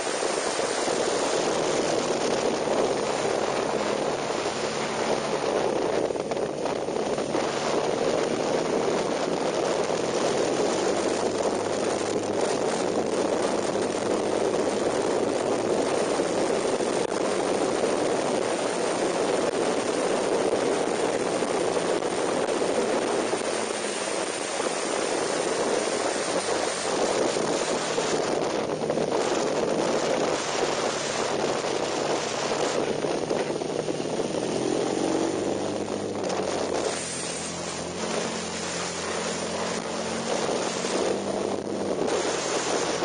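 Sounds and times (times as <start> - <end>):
wind rushing over camera: 0.0 - 43.0.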